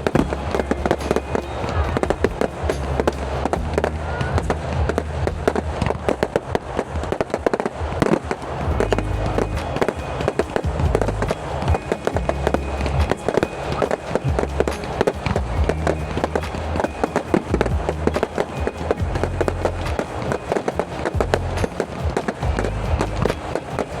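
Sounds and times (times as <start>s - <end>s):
music with heavy bass: 0.0s - 6.5s, 8.0s - 24.0s
fireworks bangs and crackles: 0.0s - 24.0s.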